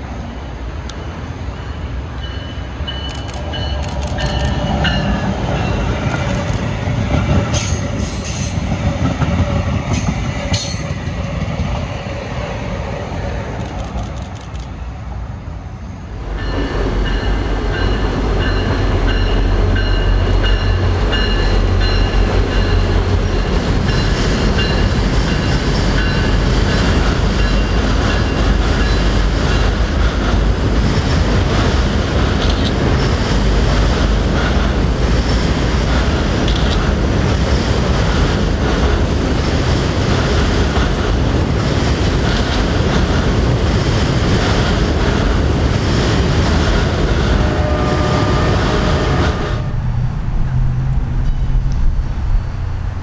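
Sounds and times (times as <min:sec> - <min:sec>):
train rumbling and clattering: 0:00.0 - 0:53.0.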